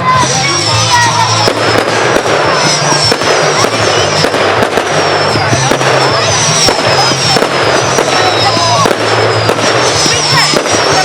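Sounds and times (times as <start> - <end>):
fireworks bangs and crackling: 0.0 - 11.0
fireworks whistling: 0.0 - 11.0.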